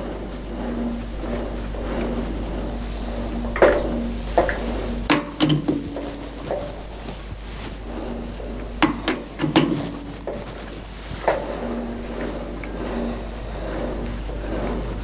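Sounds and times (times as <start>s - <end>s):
faint steady hum: 0.0s - 15.0s
sharp knocks and clatters: 0.0s - 15.0s.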